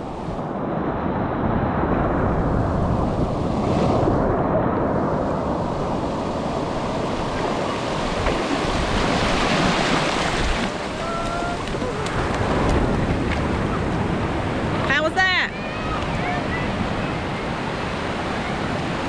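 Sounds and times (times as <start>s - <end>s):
ocean surf breaking: 0.0s - 19.0s
wind rumbling on microphone: 0.0s - 19.0s.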